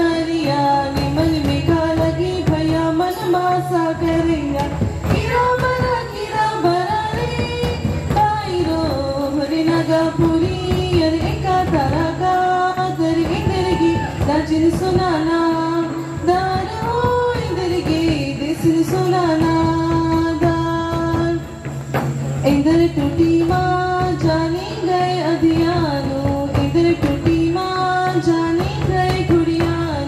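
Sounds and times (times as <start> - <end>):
drum steady beat: 0.0 - 30.0
folk singing with gliding notes: 0.0 - 30.0.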